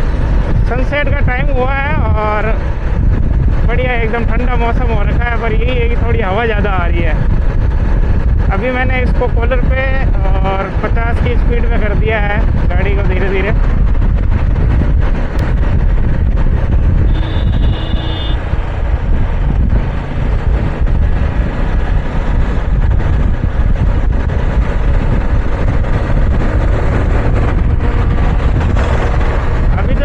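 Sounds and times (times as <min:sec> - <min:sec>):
road noise: 0:00.0 - 0:30.0
wind buffeting microphone: 0:00.0 - 0:30.0.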